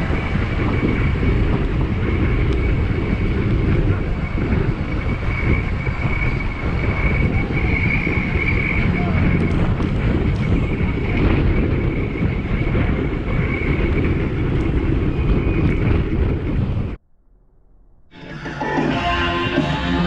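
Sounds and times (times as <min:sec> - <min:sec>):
wind rumble on microphone: 0:00.0 - 0:17.0
road noise: 0:00.0 - 0:20.0
steady high whine: 0:00.0 - 0:20.0.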